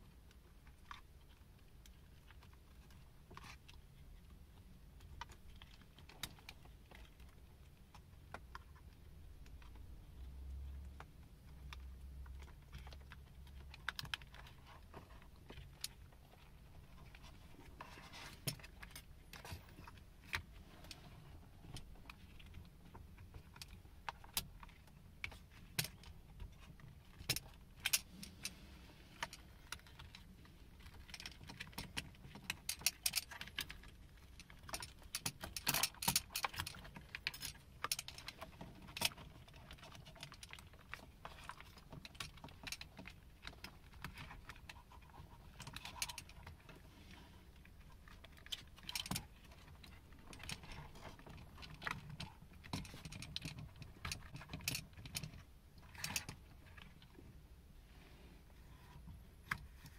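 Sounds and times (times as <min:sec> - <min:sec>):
light clicks and rattles: 0:00.0 - 0:57.4.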